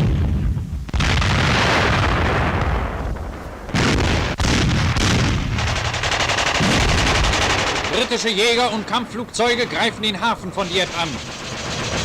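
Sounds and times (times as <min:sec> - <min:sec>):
artillery shells bursting: 0:00.0 - 0:12.0
sharp crack: 0:00.9 - 0:12.0.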